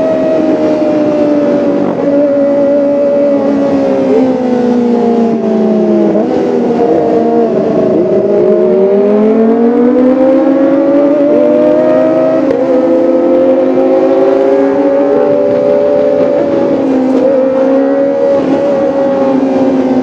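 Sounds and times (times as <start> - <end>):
motorcycle engine at high revs: 0.0 - 20.0.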